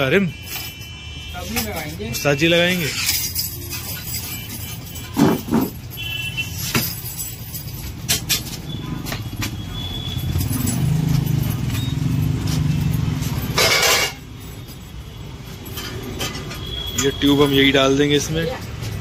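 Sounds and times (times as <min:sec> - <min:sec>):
steel spokes clinking: 0:00.3 - 0:19.0.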